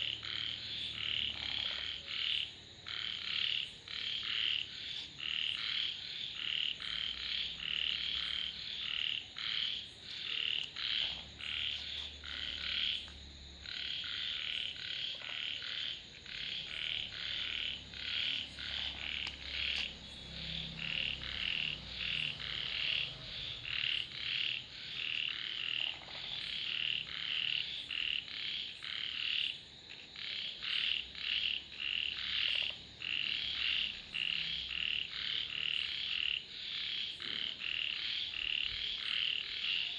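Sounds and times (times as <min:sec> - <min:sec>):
frogs calling in chorus: 0:00.0 - 0:39.9.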